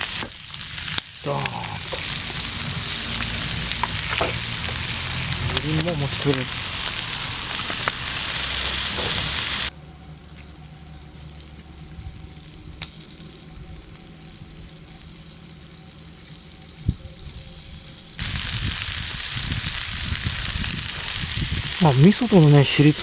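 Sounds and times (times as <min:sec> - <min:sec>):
food sizzling in a frying pan: 0:00.0 - 0:23.0.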